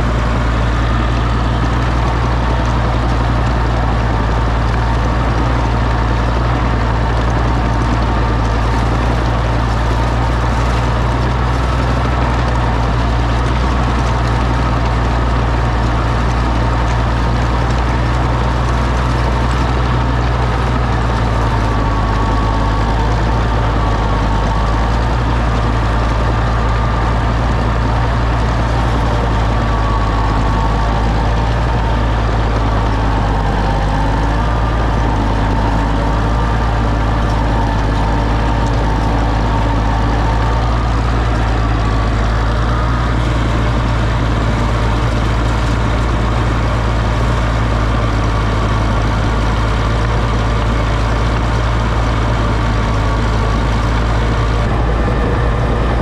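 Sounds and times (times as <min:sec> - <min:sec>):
tractor engine running steadily: 0:00.0 - 0:56.0.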